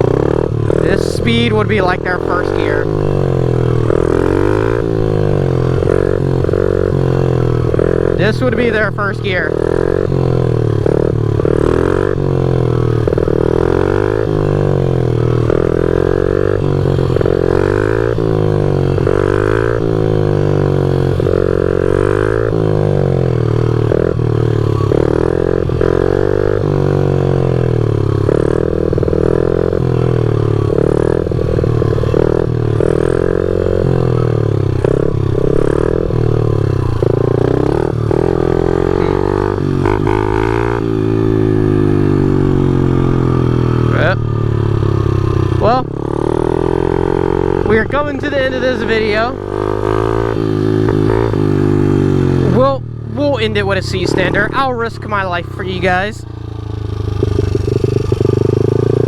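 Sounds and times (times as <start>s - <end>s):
small motorbike engine revving: 0.0s - 59.0s.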